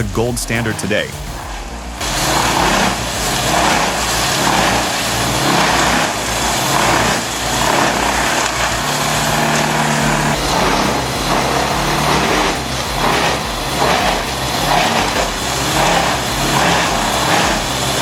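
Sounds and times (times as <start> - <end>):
brush chipper engine: 1.9 - 18.0.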